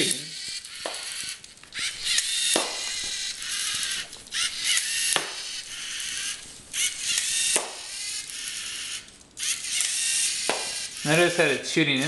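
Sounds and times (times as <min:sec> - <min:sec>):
robot servo motor whirring: 0:00.0 - 0:11.6.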